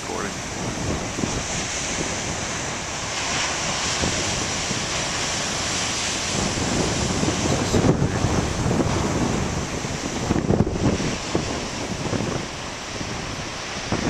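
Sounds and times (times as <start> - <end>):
large waves breaking: 0.0 - 14.0
wind buffeting microphone: 0.0 - 14.0.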